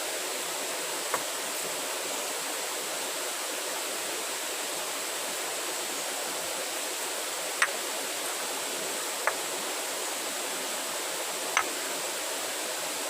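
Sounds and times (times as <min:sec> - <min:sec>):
campfire hissing: 0:00.0 - 0:13.0.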